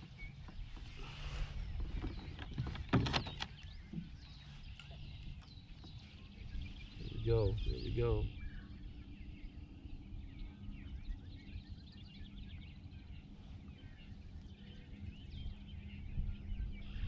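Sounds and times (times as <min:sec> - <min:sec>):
small birds chirping: 0:00.0 - 0:17.0
wind rumble on microphone: 0:00.0 - 0:17.0.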